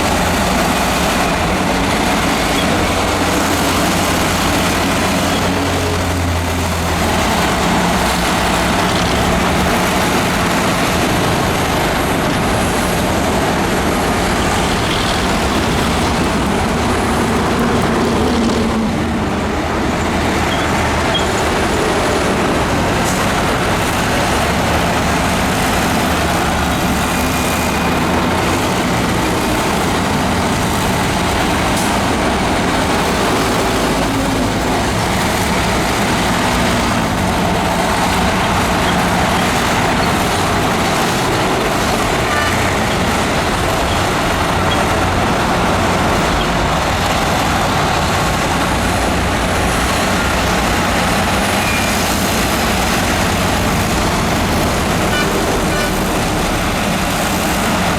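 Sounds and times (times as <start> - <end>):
diesel engine rumbling: 0.0 - 57.9.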